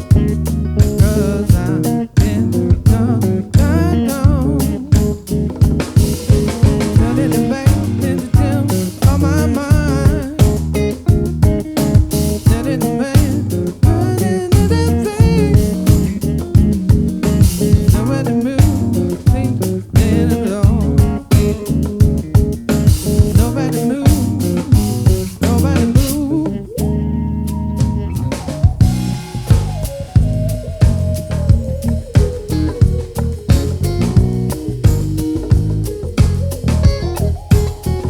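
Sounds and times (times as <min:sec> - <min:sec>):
funk-soul band playing: 0:00.0 - 0:38.0
wavering lead melody: 0:00.0 - 0:38.0.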